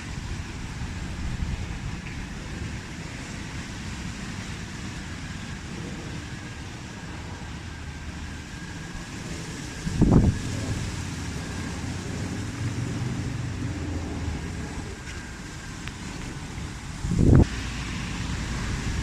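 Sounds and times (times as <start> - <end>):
urban background hum: 0.0 - 19.0
wind rumbling on microphone: 0.0 - 19.0.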